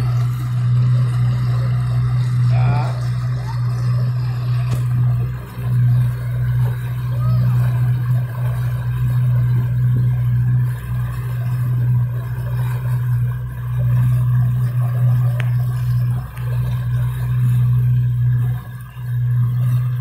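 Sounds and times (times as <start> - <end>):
outboard motor running: 0.0 - 20.0
water rushing: 0.0 - 20.0
wind: 0.0 - 20.0.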